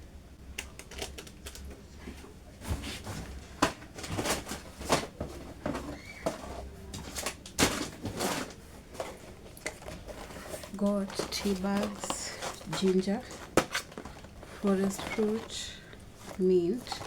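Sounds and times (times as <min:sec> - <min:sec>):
packages rustling and crinkling: 0:00.8 - 0:17.0
packages clattering: 0:02.5 - 0:17.0.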